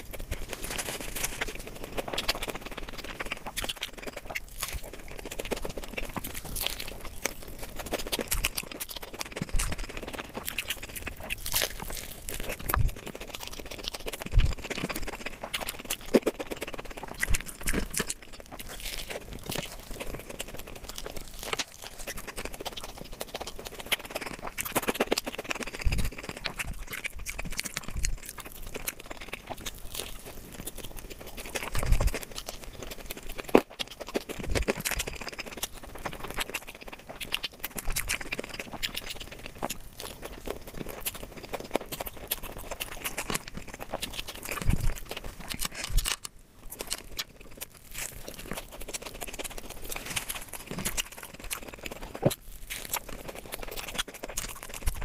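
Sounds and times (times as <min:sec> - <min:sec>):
person chewing with mouth clicks: 0:00.0 - 0:55.0.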